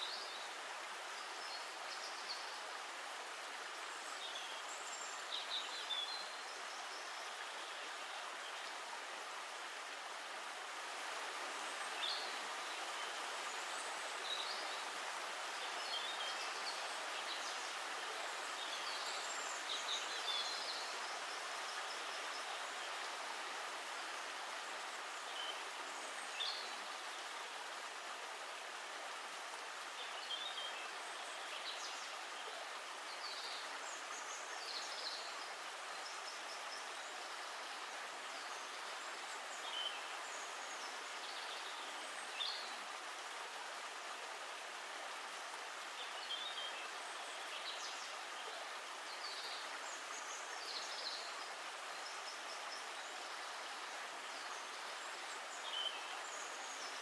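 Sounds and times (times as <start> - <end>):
steady water noise: 0.0 - 57.0.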